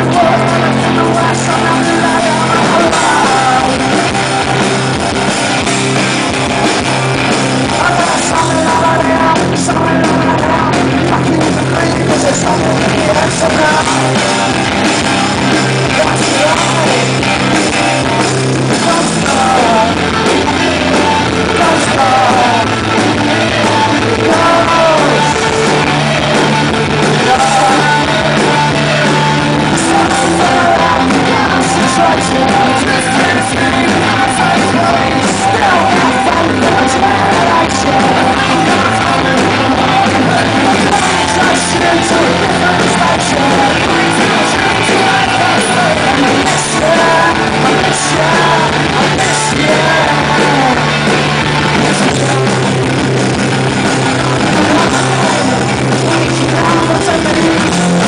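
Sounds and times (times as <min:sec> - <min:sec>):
person shouting lead vocal: 0:00.0 - 0:04.6, 0:07.6 - 0:14.6, 0:15.7 - 0:17.5, 0:18.7 - 0:51.1, 0:54.1 - 0:58.0
rock band playing live: 0:00.0 - 0:58.0.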